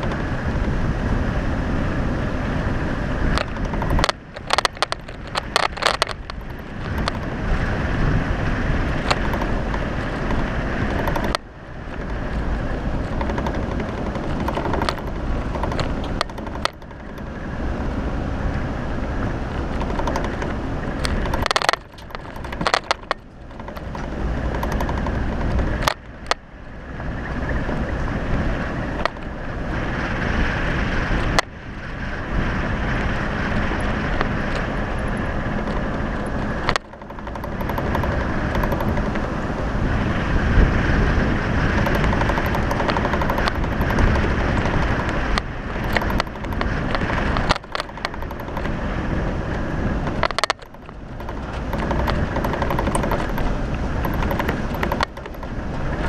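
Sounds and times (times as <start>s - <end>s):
vehicle knocks and rattles: 0.0s - 1.2s, 2.7s - 31.6s, 32.4s - 56.0s
off-road vehicle engine running: 0.0s - 56.0s.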